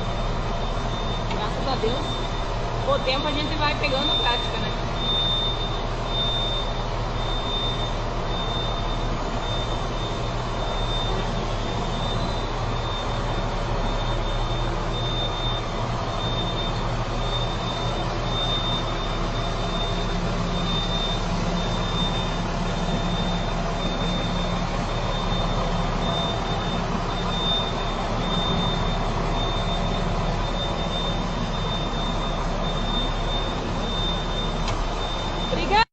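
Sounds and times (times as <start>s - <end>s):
high-pitched beep: 0.0s - 35.9s
truck diesel engine running: 0.0s - 35.9s.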